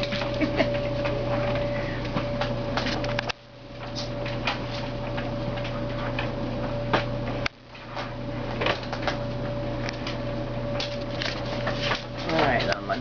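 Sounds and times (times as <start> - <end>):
steady tonal hum: 0.0 - 13.0.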